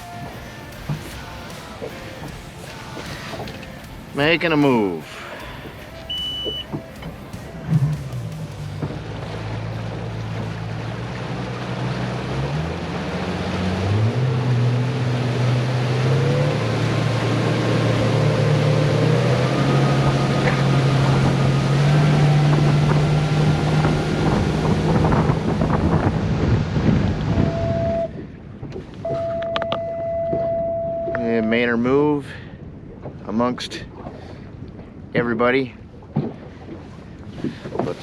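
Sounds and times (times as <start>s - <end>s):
boat engine throttling up: 0.0s - 31.9s
water rushing past: 0.0s - 38.0s.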